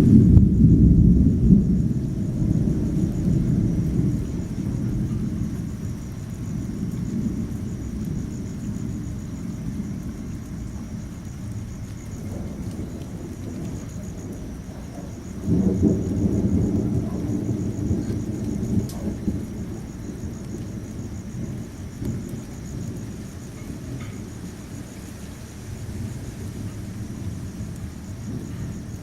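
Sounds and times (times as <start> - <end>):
rain: 0.0 - 29.0
thunder rumbling: 0.0 - 29.0.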